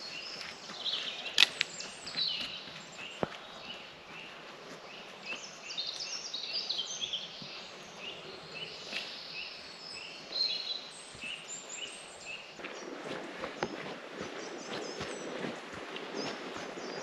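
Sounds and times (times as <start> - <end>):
footsteps on a path: 0.0 - 9.7, 12.6 - 17.0
songbirds singing: 0.0 - 17.0.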